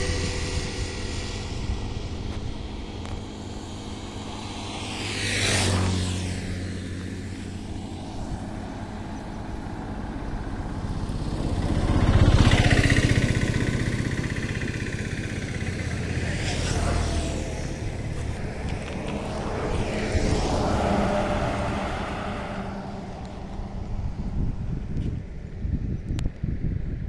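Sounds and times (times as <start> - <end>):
low engine beat: 0.0 - 5.2, 6.8 - 25.8
vehicles passing on highway: 0.0 - 27.0.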